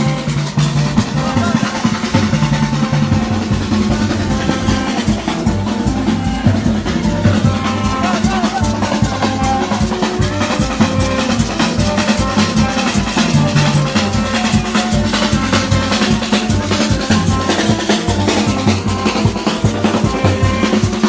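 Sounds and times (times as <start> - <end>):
held low notes and melody: 0.0 - 21.0
marching drummers beating barrel drums: 0.0 - 21.0.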